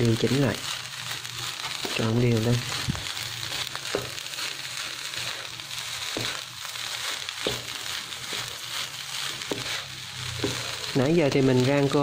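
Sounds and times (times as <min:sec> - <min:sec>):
rice sizzling in a pan: 0:00.0 - 0:12.0
spatula scraping a pan: 0:00.2 - 0:12.0.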